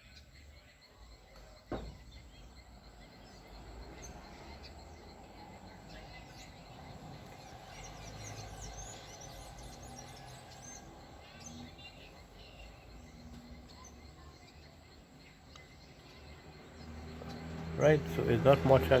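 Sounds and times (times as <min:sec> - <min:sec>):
faint background hum: 0:00.0 - 0:19.0
small birds chirping: 0:00.0 - 0:19.0.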